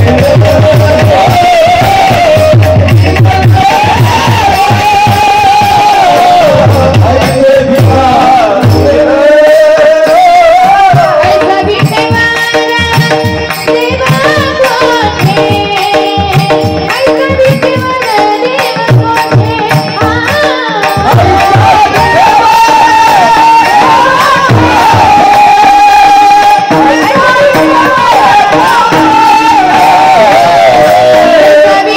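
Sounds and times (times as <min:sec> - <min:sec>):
drum beating: 0:00.0 - 0:31.9
held accompaniment: 0:00.0 - 0:31.9
women singing devotional song: 0:00.0 - 0:31.9.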